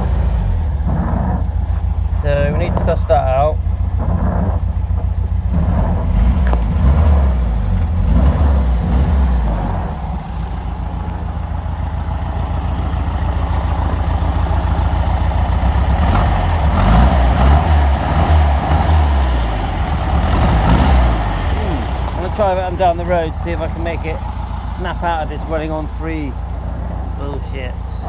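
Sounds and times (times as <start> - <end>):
rough car engine revving: 0.0 - 28.0.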